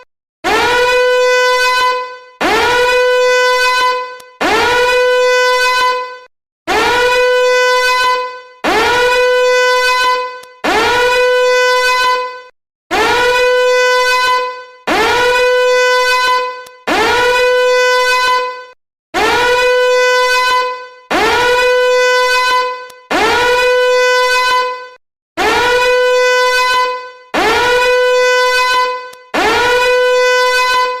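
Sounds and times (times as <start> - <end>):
alarm horn blasts: 0.0 - 31.0.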